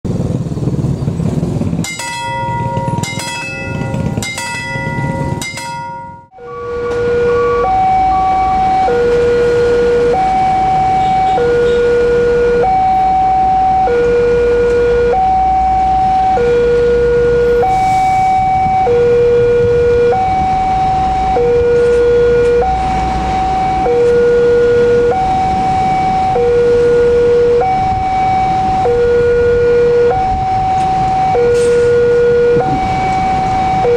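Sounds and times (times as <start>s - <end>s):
railway crossing gong bell: 1.7s - 33.9s
two-tone crossing warning alarm: 1.8s - 33.9s.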